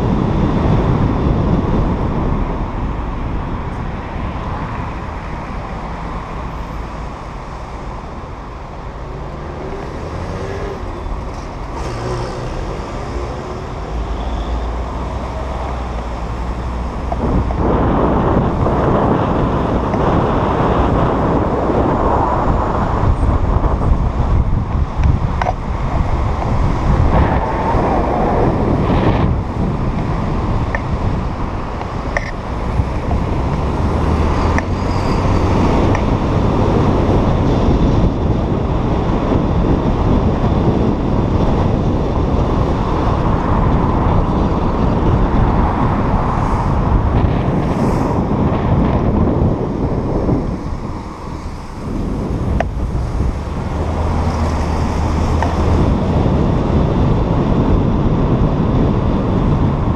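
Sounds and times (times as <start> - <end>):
tyre noise on wet road: 0.0 - 59.9
wind buffeting microphone: 0.0 - 59.9.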